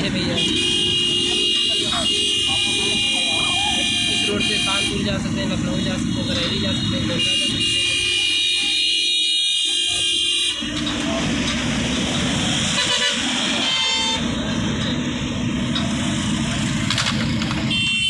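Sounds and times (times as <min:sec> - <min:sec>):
vehicle horns: 0:00.0 - 0:15.1, 0:15.9 - 0:18.0
road traffic rumble: 0:00.0 - 0:18.0.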